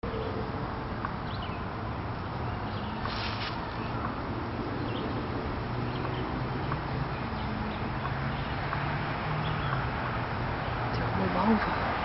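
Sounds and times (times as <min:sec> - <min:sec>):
distant traffic hum: 0:00.0 - 0:12.0.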